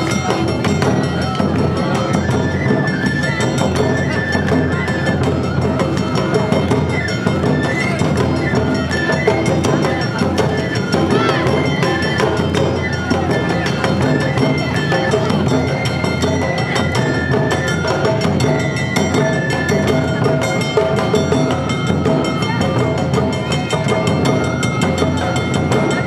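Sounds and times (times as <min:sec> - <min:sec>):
bamboo flute melody: 0:00.0 - 0:26.0
taiko drums: 0:00.0 - 0:26.0.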